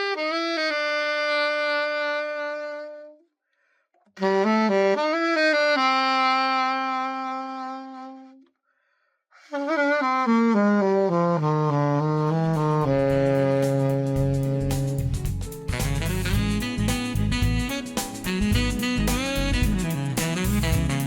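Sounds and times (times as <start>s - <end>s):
solo saxophone playing: 0.0s - 3.3s, 4.1s - 8.6s, 9.4s - 21.0s.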